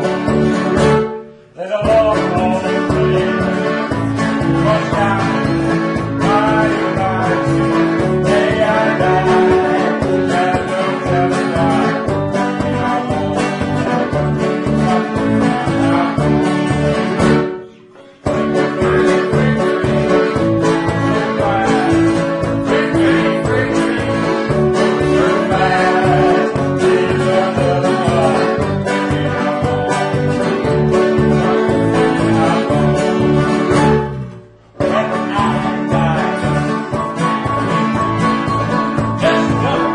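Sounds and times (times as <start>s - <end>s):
acoustic guitar picking: 0.0s - 39.9s
banjo picking: 0.0s - 39.9s
steady beat: 1.8s - 17.6s, 18.2s - 34.1s, 34.8s - 39.9s.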